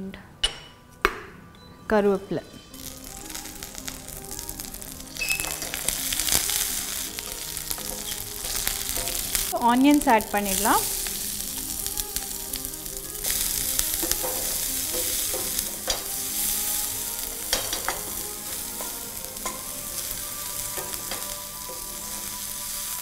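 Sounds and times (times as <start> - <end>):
onions sizzling in oil: 2.6 - 23.0.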